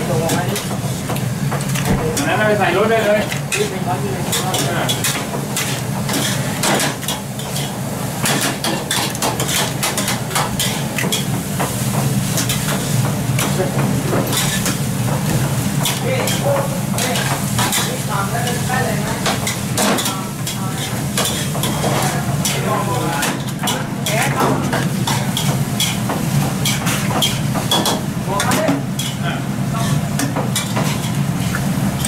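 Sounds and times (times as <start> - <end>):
rice sizzling: 0.0 - 32.0
metal utensils clanking in woks: 0.1 - 32.0.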